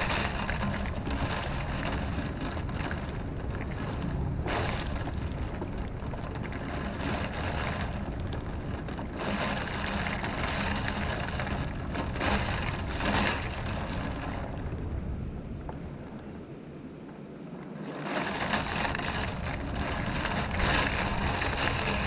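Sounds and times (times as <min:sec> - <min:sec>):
rain beating against a window: 0:00.0 - 0:14.8, 0:18.0 - 0:22.0
low rumble of wind: 0:00.0 - 0:22.0.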